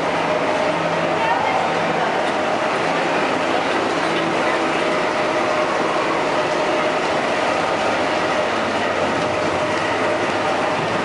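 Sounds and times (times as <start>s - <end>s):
diesel locomotive droning: 0.0s - 11.0s.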